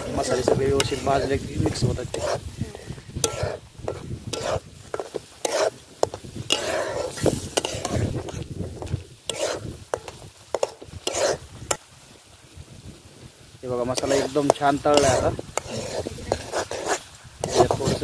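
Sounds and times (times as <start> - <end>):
metal spoon scraping steel pan: 0.0 - 2.5, 3.2 - 11.4, 13.9 - 18.0
paste sizzling: 0.0 - 11.9, 13.7 - 18.0.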